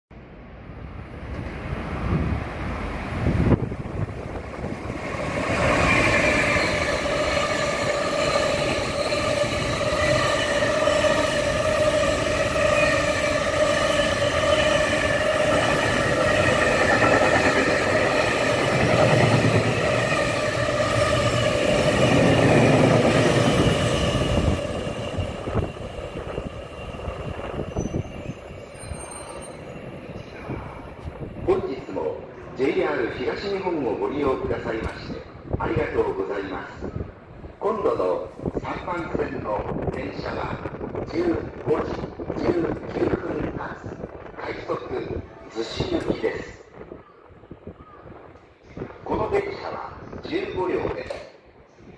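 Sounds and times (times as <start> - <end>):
freight train passing: 0.2 - 51.9.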